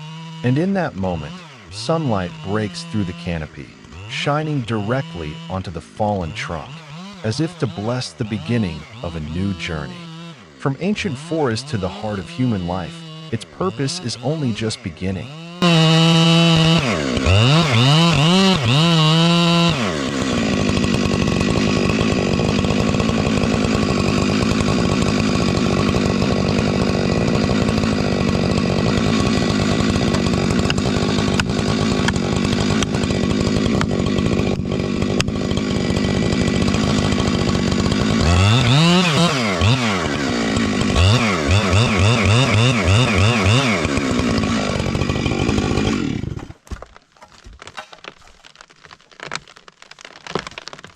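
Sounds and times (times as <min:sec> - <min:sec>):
chainsaw engine revving: 0:00.0 - 0:46.8.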